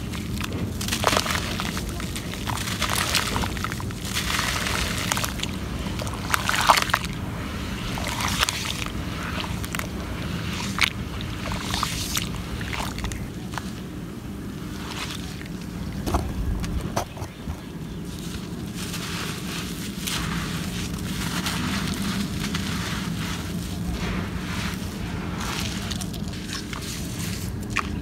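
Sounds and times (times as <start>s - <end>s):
muddy water sloshing: 0.0s - 28.0s
steady low rumble: 0.0s - 28.0s.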